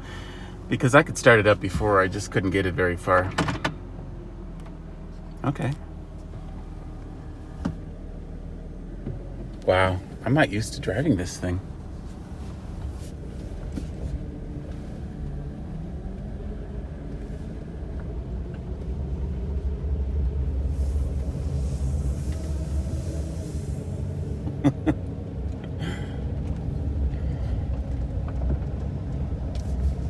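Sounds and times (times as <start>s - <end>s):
van engine rumble: 0.0s - 30.0s.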